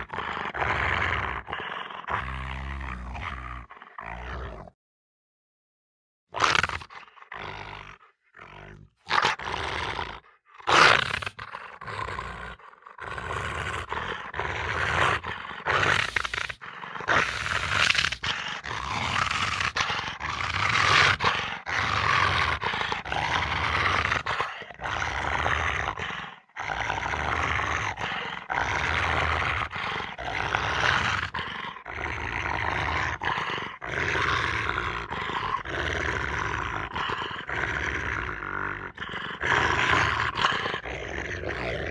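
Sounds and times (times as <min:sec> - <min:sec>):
animal roaring and growling: 0:00.0 - 0:04.8, 0:06.4 - 0:41.9.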